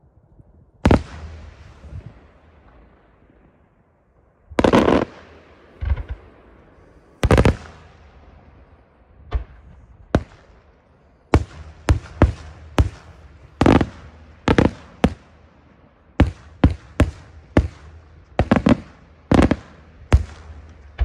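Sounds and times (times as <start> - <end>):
fireworks bursting with echo: 0.8 - 21.0.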